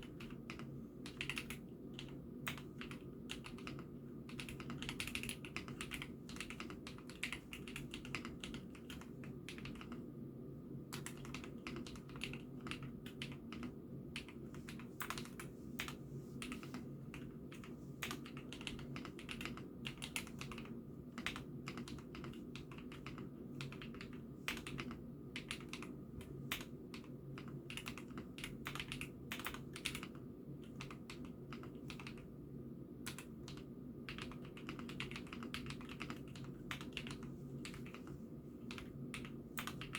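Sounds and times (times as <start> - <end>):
mechanical keyboard typing: 0.0 - 10.0, 10.9 - 32.3, 33.0 - 39.9
low background hum: 0.0 - 39.9.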